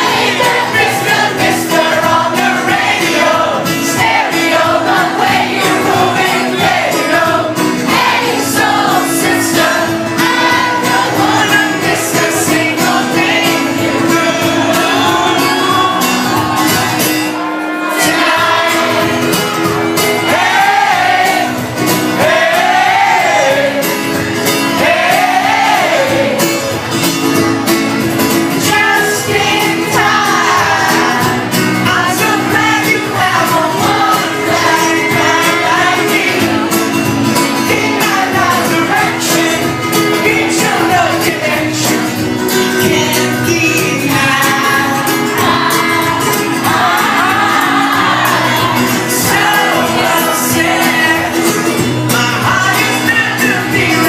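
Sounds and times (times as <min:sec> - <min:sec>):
lead vocals: 0:00.0 - 0:54.0
live pop band playing: 0:00.0 - 0:54.0.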